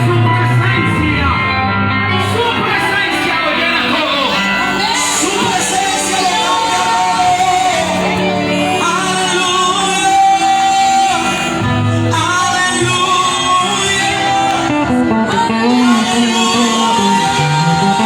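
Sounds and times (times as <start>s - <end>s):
guitar: 0.0s - 18.0s
person singing: 0.0s - 18.0s
worship band playing: 0.0s - 18.0s.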